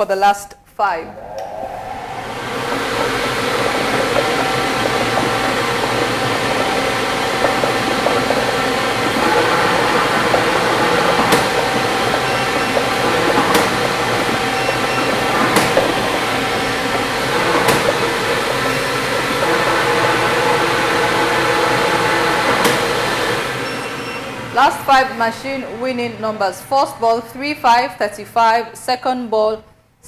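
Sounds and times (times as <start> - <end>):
ball machine rushing: 1.0 - 28.3.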